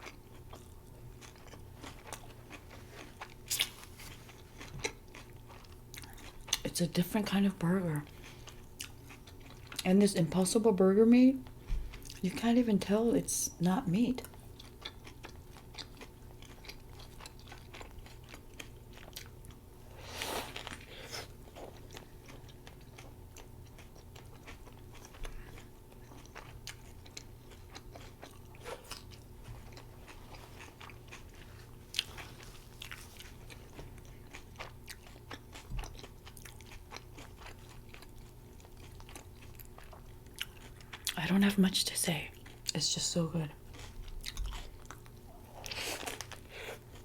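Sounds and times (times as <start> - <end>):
chewing a burger: 0.0 - 9.9, 11.4 - 12.3, 14.2 - 41.2, 42.3 - 42.8, 43.6 - 47.0
faint steady hum: 0.0 - 47.0.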